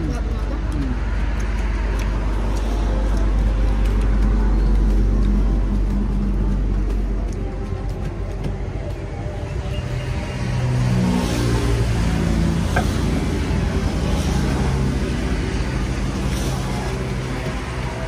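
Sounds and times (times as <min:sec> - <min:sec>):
highway traffic passing: 0:00.0 - 0:18.0.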